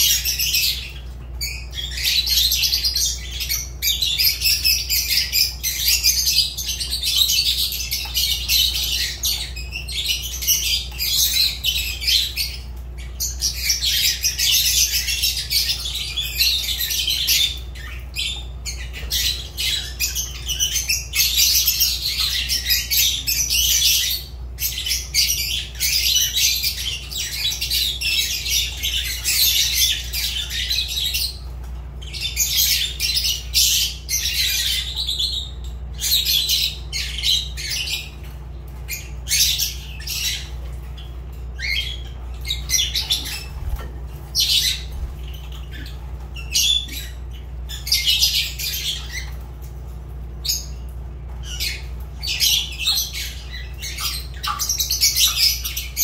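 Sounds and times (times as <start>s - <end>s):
lovebirds squawking: 0.0s - 56.0s
steady low hum: 0.0s - 56.0s.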